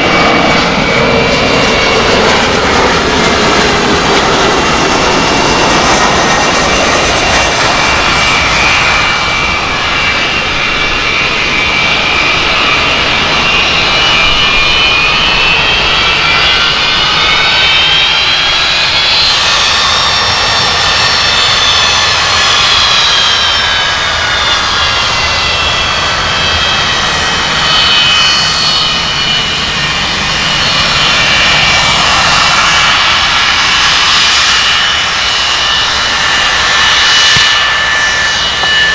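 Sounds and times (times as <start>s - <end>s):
jet engine fan whine: 0.0s - 38.9s
jet rumble: 0.0s - 38.9s.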